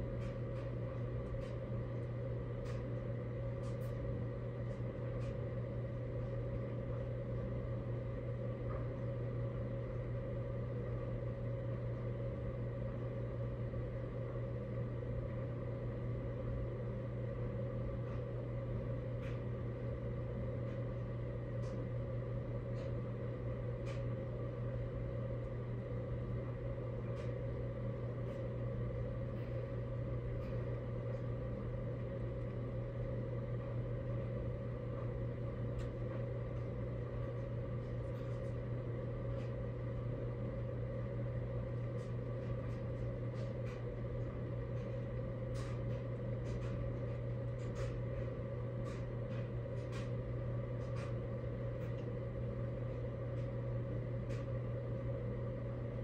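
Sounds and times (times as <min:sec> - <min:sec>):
white-noise drone with tones: 0:00.0 - 0:56.0.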